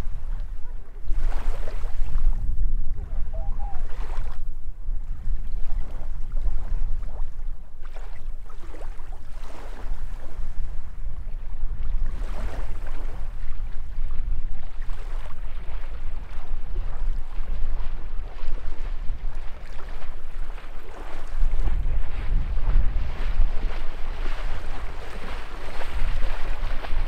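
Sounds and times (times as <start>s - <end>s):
small waves washing on shore: 0.0s - 27.0s
wind buffeting microphone: 0.0s - 27.0s.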